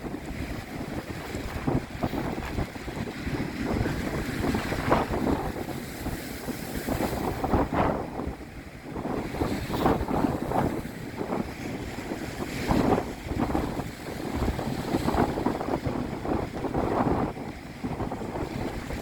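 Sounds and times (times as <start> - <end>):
sea waves breaking: 0.0 - 19.0
wind buffeting microphone: 0.0 - 19.0.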